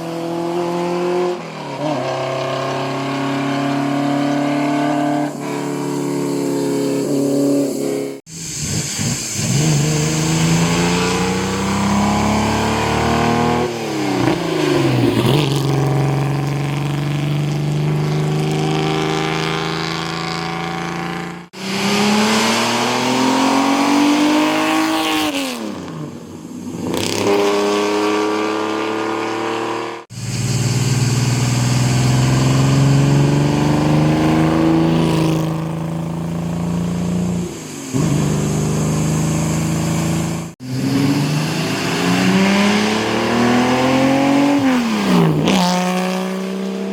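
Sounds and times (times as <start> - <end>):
racing car engines revving past: 0.0 - 26.1, 26.8 - 46.9.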